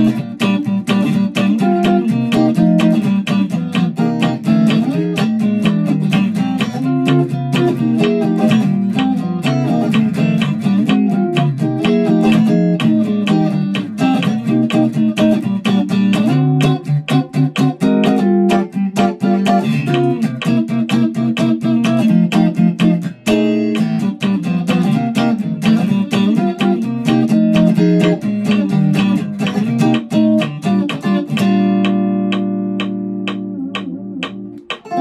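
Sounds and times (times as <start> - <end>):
electric guitar strumming chords: 0.0 - 35.0.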